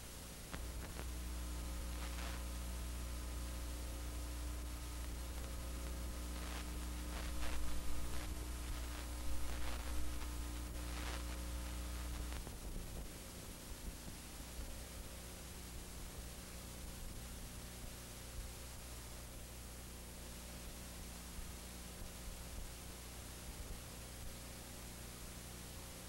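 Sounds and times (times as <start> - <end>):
background hiss: 0.0 - 26.0
electrical hum: 0.0 - 26.0.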